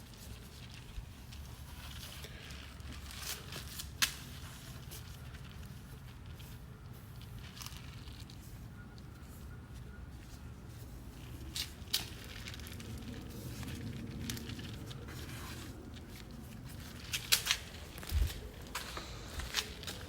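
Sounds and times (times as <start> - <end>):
low steady background noise: 0.0 - 20.0
rustling and clicking handling noise: 0.0 - 20.0.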